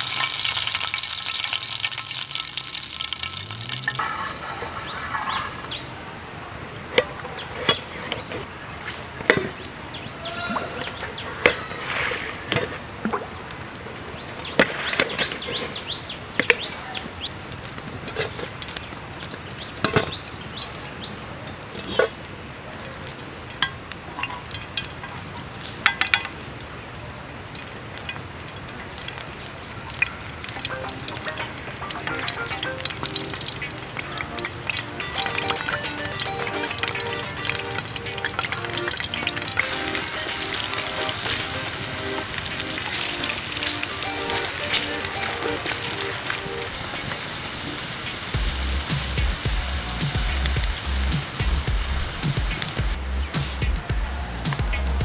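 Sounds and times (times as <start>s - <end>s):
creek water rushing: 0.0s - 24.2s, 24.8s - 55.0s.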